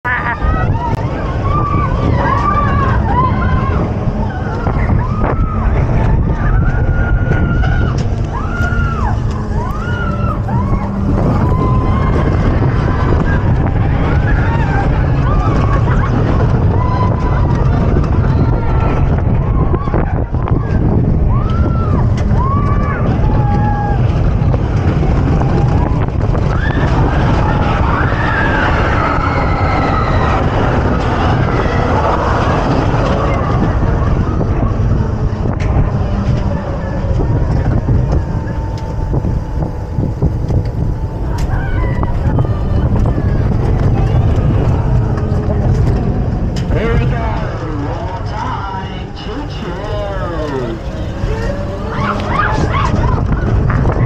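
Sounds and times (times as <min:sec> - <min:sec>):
roller coaster rumbling on track: 0:00.0 - 0:54.0
wind on microphone: 0:00.0 - 0:54.0.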